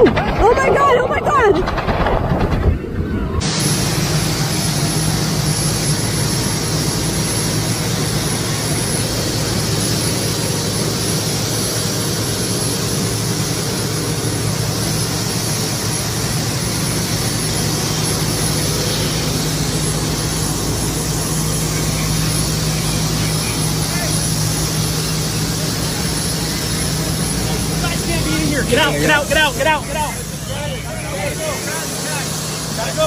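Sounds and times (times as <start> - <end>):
turbine aircraft engine whining: 0.0 - 33.0.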